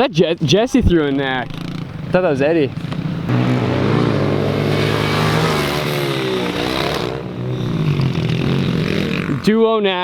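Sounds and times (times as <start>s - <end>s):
pit bike engine revving: 1.0s - 9.6s.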